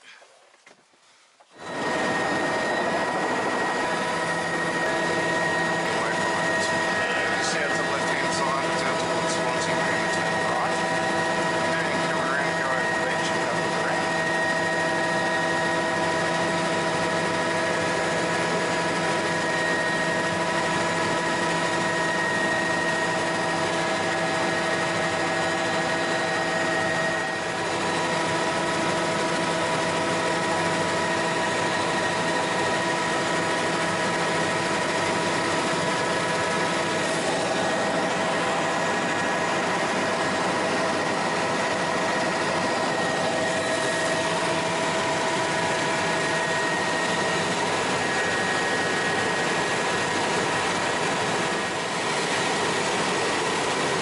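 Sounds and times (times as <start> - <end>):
helicopter engine whine and hum: 1.5 - 54.0.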